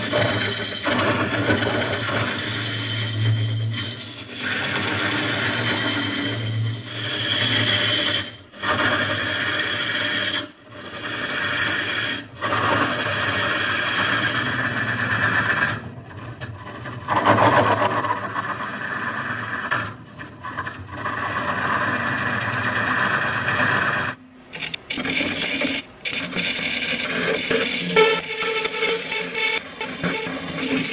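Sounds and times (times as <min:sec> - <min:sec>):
lathe gouge cutting wood: 0:00.0 - 0:15.8, 0:17.2 - 0:30.9.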